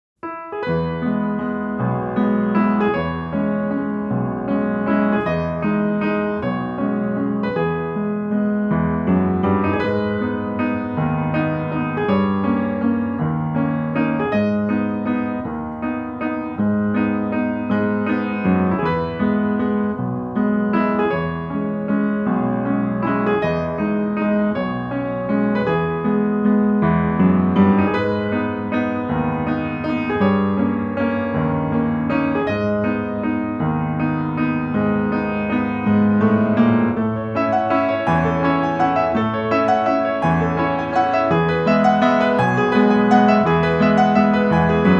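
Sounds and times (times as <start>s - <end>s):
piano music: 0.2s - 44.9s.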